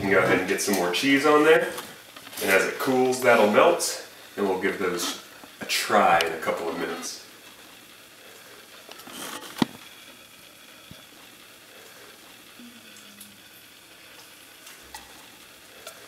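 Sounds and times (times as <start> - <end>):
cheese sizzling on hot pan: 0.1 - 16.0.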